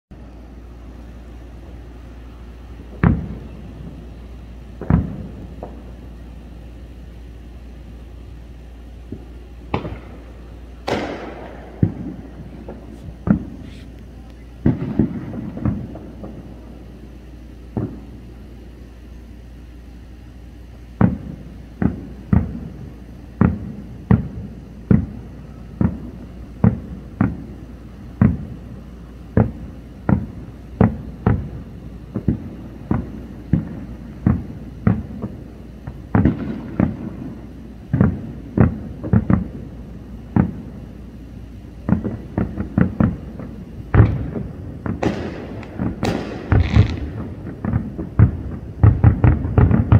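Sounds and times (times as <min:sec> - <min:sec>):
distant fireworks booming: 0:00.2 - 0:49.9.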